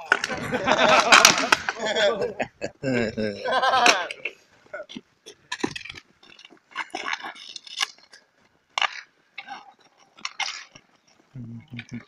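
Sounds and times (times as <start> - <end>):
hockey sticks clacking on asphalt: 0.0 - 2.0, 3.7 - 12.0.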